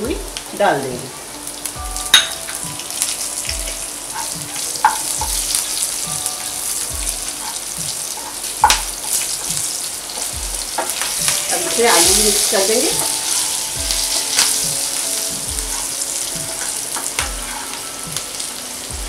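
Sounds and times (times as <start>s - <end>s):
seeds sizzling in hot oil: 0.0s - 19.0s.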